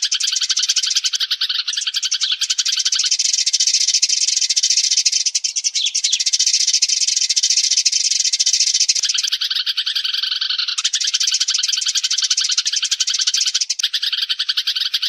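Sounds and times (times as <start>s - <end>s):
lower chirps: 0.0s - 15.0s
sparrow flock chattering: 0.0s - 15.0s.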